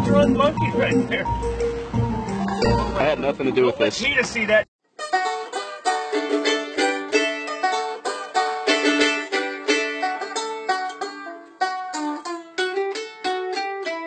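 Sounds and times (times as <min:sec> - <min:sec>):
banjo playing: 0:00.0 - 0:03.8, 0:04.9 - 0:14.0
mandolin playing: 0:00.0 - 0:03.8, 0:04.9 - 0:14.0.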